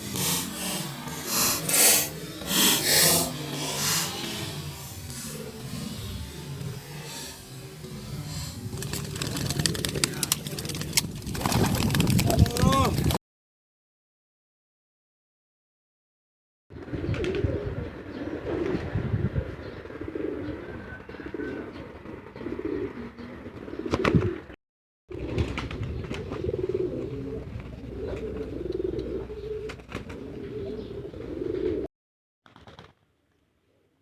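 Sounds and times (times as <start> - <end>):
pigeons cooing: 0.0 - 13.0, 16.8 - 24.6, 25.2 - 31.9.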